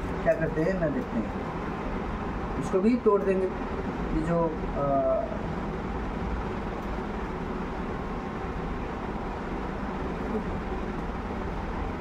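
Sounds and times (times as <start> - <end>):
fan whooshing hiss: 0.0 - 12.0.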